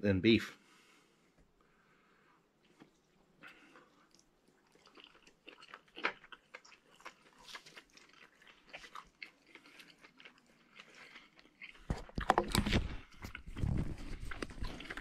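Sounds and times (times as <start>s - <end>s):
chewing meat: 2.5s - 15.0s.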